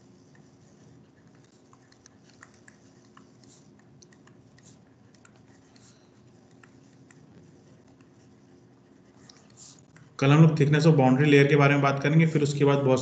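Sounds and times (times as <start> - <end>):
low steady hum: 0.0 - 13.0
stylus scratching on tablet: 0.0 - 13.0.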